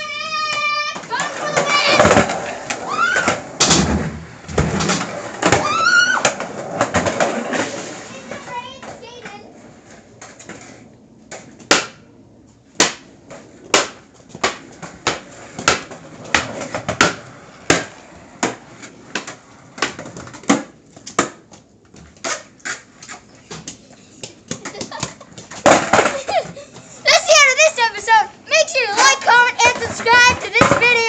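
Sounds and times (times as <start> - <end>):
skateboard clacks and knocks: 0.1 - 12.0, 12.8 - 26.9, 28.9 - 31.0.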